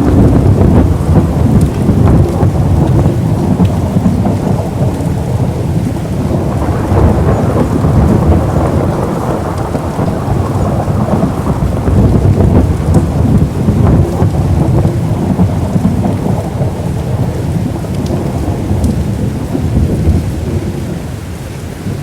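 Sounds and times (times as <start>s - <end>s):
deep continuous rumble: 0.0s - 22.0s
heavy rain falling: 0.0s - 22.0s.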